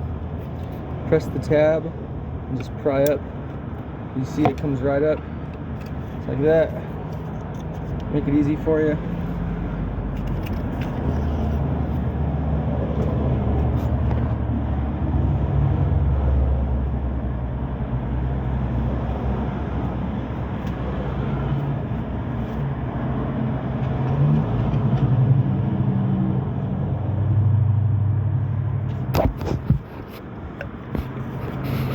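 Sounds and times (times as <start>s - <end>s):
vehicle engine droning: 0.0s - 31.9s.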